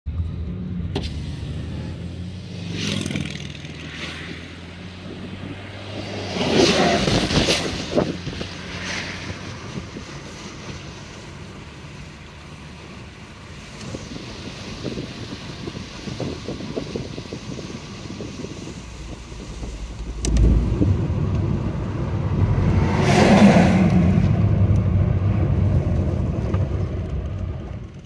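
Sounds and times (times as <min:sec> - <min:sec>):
car engine hum: 0:00.1 - 0:28.0
road and wind noise: 0:00.1 - 0:28.0.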